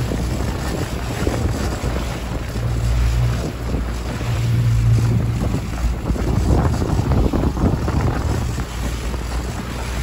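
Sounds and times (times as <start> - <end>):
outboard motor running: 0.0 - 10.0
water rushing in wake: 0.0 - 10.0
wind buffeting microphone: 0.0 - 10.0.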